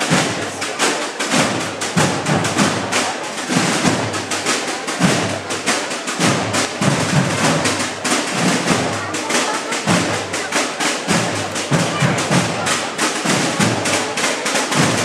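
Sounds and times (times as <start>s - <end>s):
deep drum beats: 0.0s - 15.0s
rapid snare drum strokes: 0.0s - 15.0s.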